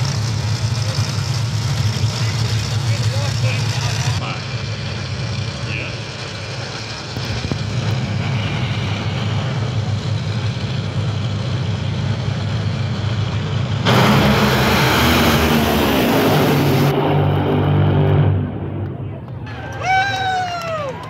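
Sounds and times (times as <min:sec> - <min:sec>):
dragster engines rumbling: 0:00.0 - 0:21.0
dragsters launching at full throttle: 0:00.0 - 0:21.0.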